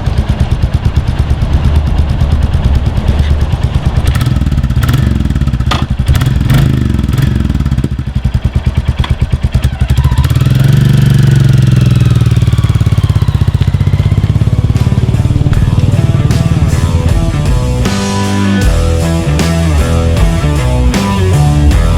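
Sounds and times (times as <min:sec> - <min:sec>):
motorcycle engine thumping: 0:00.0 - 0:21.9.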